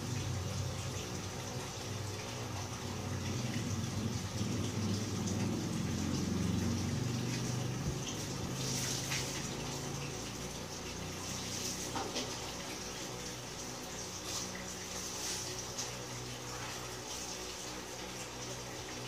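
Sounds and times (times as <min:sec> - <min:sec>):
constant hiss: 0:00.0 - 0:19.0
steady hum: 0:00.0 - 0:19.0.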